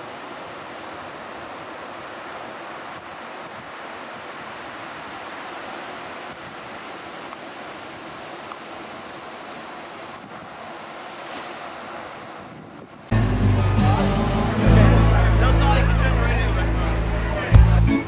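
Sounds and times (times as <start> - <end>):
ocean surf breaking: 0.0 - 17.6.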